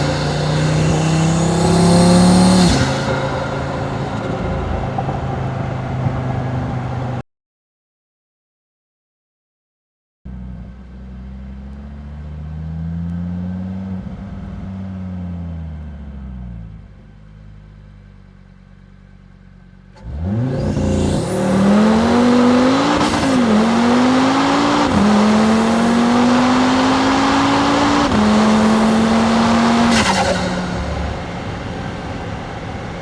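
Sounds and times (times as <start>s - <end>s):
car engine accelerating through gears: 0.0s - 7.2s, 10.3s - 17.3s, 19.9s - 33.0s
road noise: 0.0s - 7.2s, 10.3s - 33.0s.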